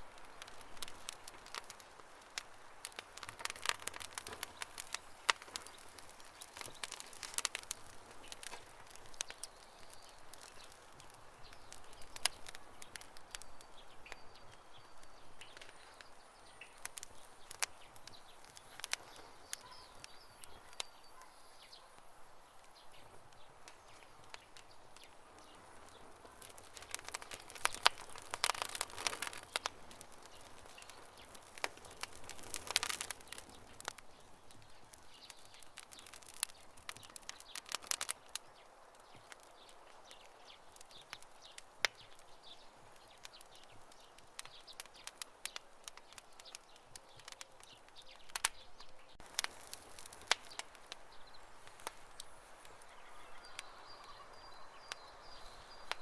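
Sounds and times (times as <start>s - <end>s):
low steady hiss: 0.0s - 47.1s, 47.7s - 56.0s
wood campfire crackling: 0.0s - 56.0s.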